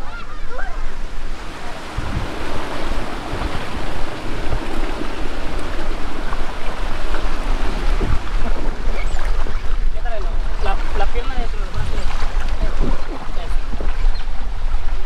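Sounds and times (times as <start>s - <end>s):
water rushing into slide: 0.0s - 15.0s
wind buffeting microphone: 0.0s - 15.0s.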